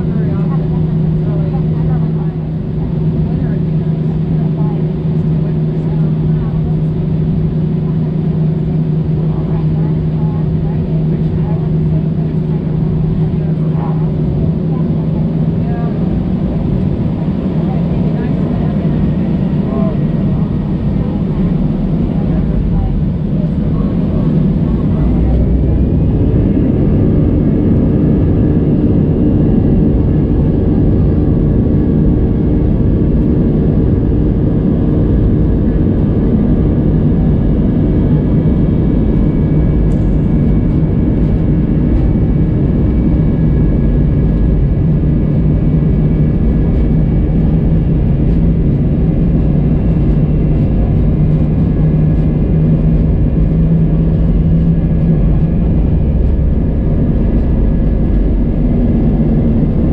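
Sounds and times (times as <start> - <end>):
jet engines rumble and whine: 0.0 - 59.9.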